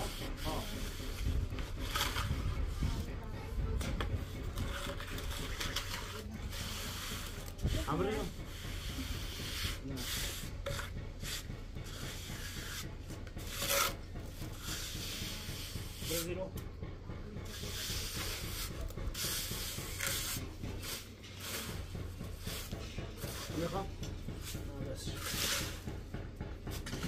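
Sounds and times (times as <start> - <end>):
rough scraping strokes: 0.0 - 3.1, 3.7 - 16.3, 17.4 - 26.1.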